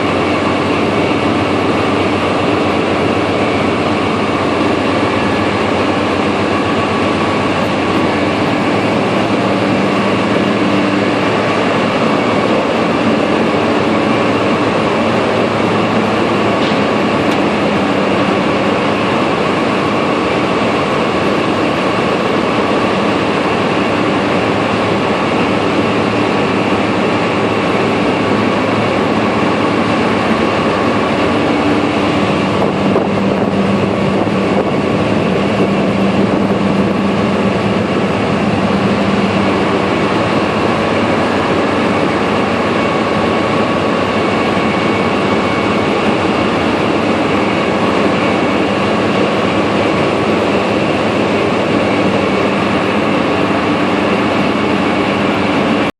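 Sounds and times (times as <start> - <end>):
drilling rig machinery running: 0.0 - 55.9
low hum: 0.0 - 55.9
thin steady whine: 0.0 - 55.9.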